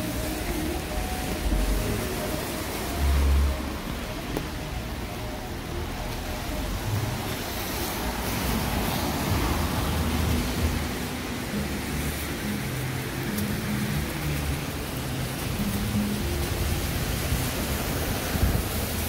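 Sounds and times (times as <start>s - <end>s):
passing traffic hum: 0.0s - 19.0s
rain falling on pavement: 0.0s - 19.0s.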